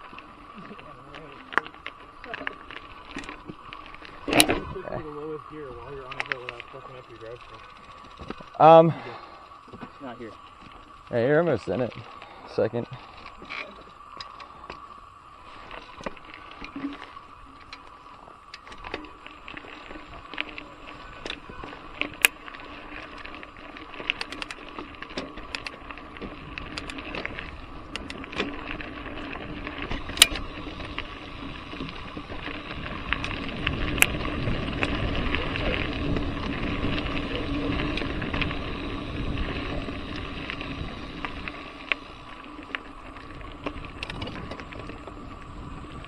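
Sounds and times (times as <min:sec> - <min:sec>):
bike clicks and rattles: 0:00.0 - 0:46.0
bike tyres rolling on dirt: 0:00.0 - 0:46.0.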